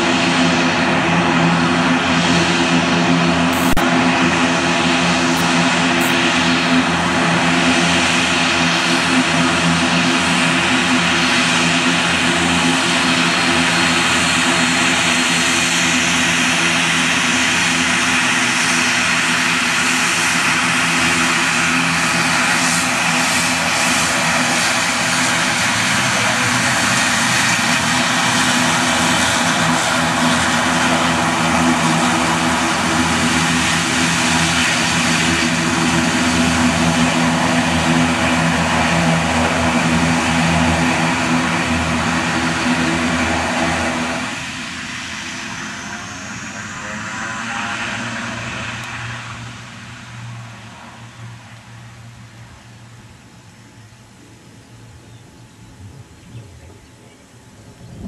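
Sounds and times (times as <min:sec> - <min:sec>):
propeller drone: 0:00.0 - 0:58.0
turboprop engines running: 0:00.0 - 0:58.0.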